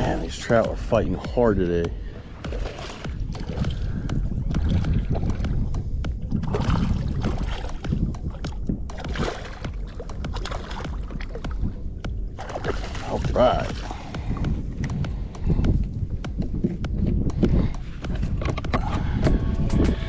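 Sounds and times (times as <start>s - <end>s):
gear knocking against hull: 0.0s - 20.0s
water splashing around kayak: 0.0s - 20.0s
wind on microphone: 0.0s - 20.0s.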